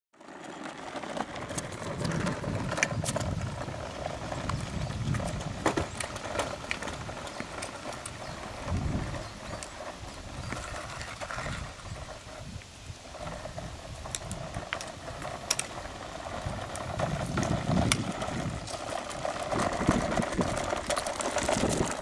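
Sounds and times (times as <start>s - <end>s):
plastic toy wheels rolling on pavement: 0.2s - 22.0s.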